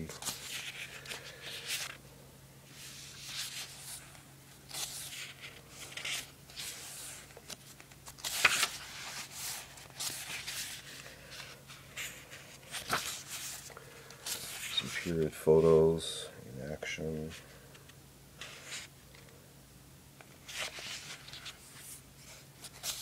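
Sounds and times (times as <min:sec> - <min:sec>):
book pages rustling and flipping: 0:00.0 - 0:02.0, 0:02.7 - 0:15.4, 0:17.8 - 0:19.3, 0:20.2 - 0:23.0.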